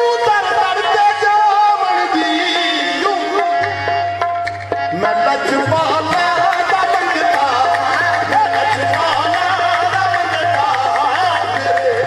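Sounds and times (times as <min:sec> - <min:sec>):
harmonium held note: 0:00.0 - 0:12.0.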